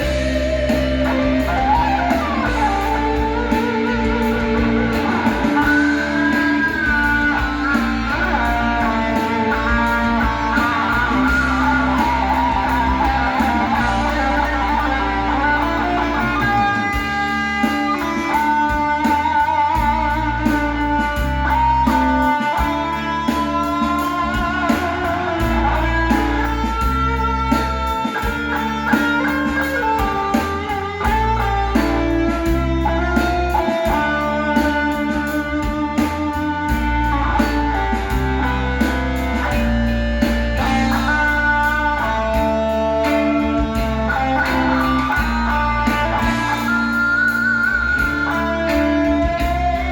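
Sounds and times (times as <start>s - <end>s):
bass line: 0.0s - 49.9s
electric guitar lead melody: 0.0s - 49.9s
steady beat: 0.0s - 49.9s.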